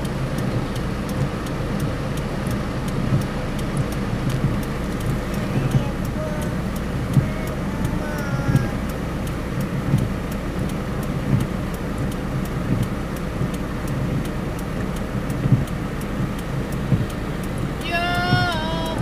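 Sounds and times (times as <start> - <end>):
car engine: 0.0 - 19.0
tyres on wet road: 0.0 - 19.0
windscreen wipers sweeping: 0.0 - 19.0.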